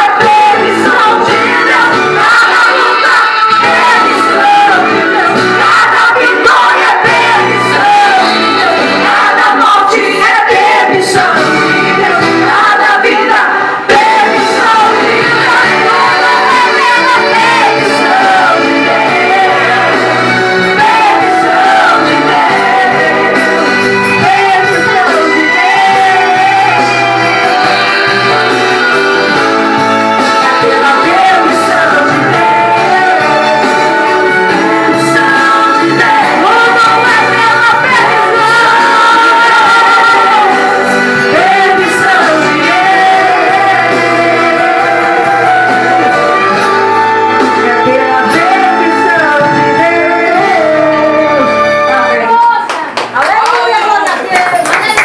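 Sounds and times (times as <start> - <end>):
group singing worship songs: 0.0 - 52.3
instrumental music: 0.0 - 53.0.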